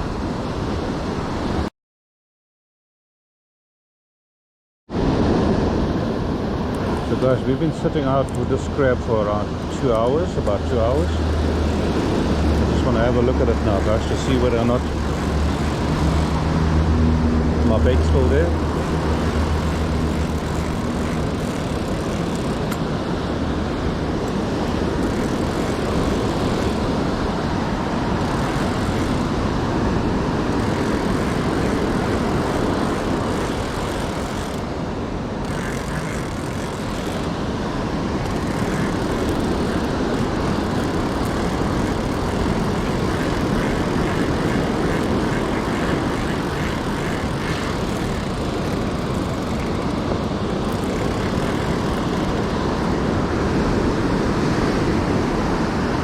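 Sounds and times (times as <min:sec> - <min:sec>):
surf at the shore: 0:00.0 - 0:01.7, 0:04.9 - 0:56.0
wind: 0:00.0 - 0:01.7, 0:04.9 - 0:56.0.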